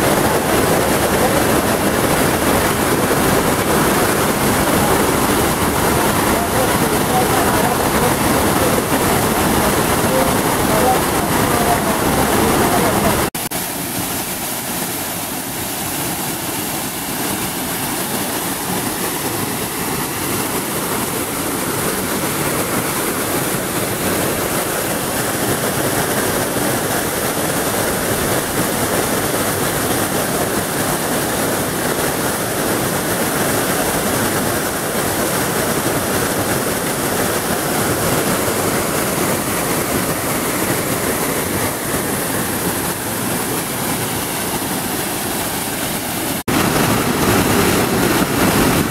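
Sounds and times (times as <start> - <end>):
waterfall rushing and splashing: 0.0 - 48.9.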